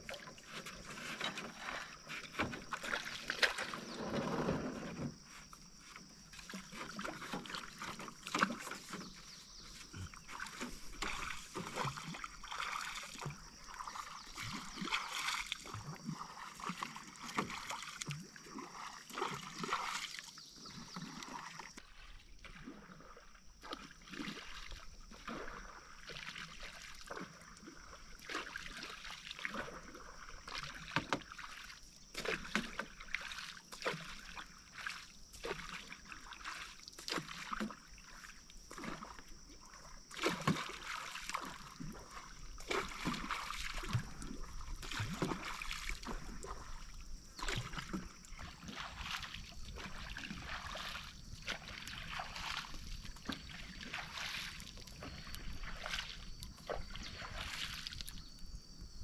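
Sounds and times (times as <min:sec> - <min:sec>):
paddle splashing in water: 0:00.0 - 0:58.5.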